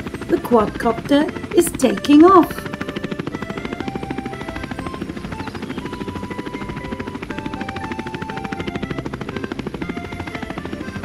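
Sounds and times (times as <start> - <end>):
cartoon drone rotors chopping: 0.0 - 11.0.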